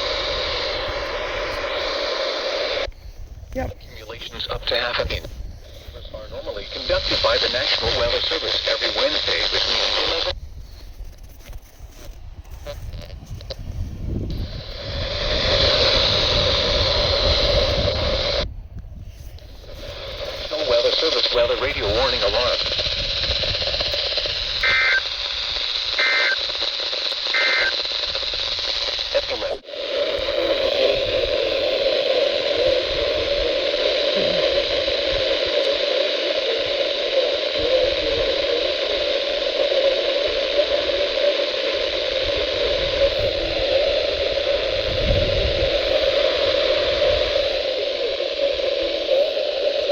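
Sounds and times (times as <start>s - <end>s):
radio static hiss: 0.0s - 49.9s.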